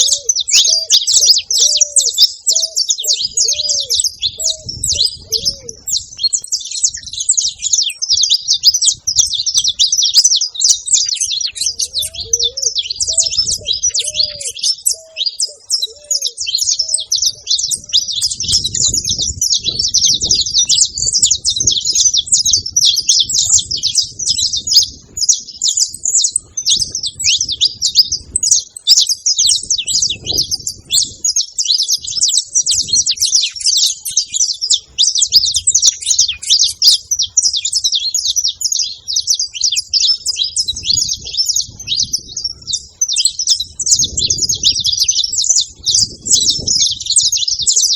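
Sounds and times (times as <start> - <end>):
dove cooing: 0.0 - 47.9
finch singing high chirps: 0.0 - 47.9.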